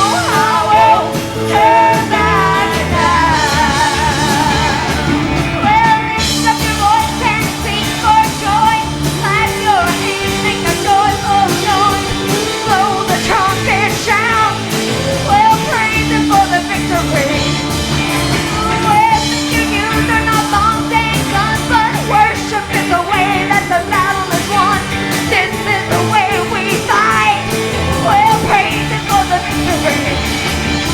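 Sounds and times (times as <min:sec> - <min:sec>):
worship band playing rock song: 0:00.0 - 0:30.9.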